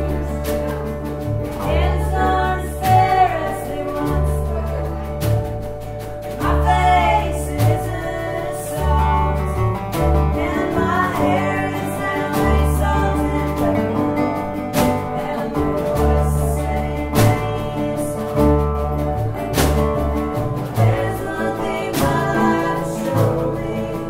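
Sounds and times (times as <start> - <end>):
song with singing and guitar: 0.0 - 24.0.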